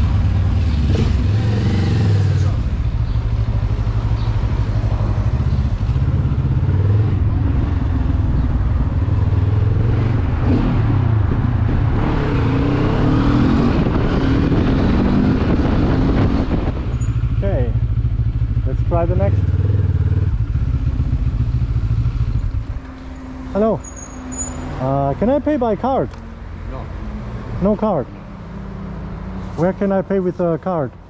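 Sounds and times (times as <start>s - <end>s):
motorcycle engine revving: 0.0s - 27.8s.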